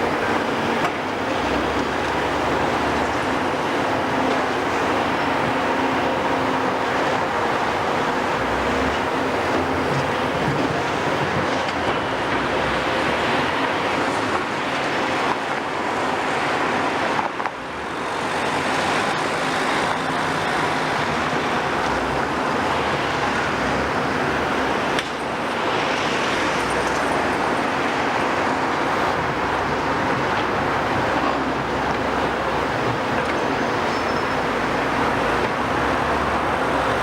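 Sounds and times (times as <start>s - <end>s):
demolition machinery running: 0.0s - 37.0s.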